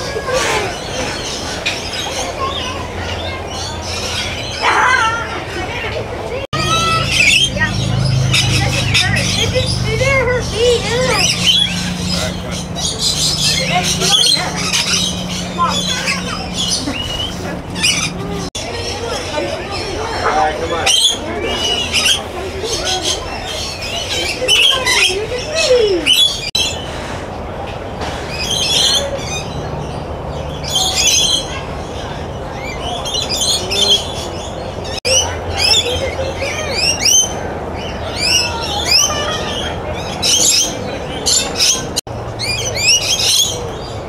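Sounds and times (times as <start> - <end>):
flock of birds chattering: 0.0 - 44.0.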